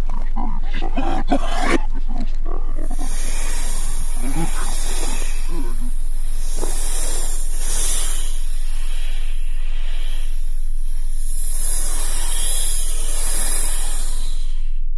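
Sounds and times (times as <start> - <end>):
loud even hissing: 2.8 - 14.9
low steady hum: 2.8 - 14.9.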